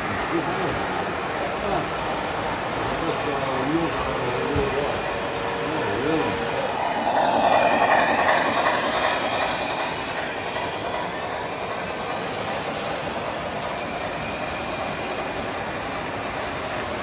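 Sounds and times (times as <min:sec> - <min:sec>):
model train rolling past: 0:00.0 - 0:17.0
wheels clattering on rails: 0:00.0 - 0:17.0.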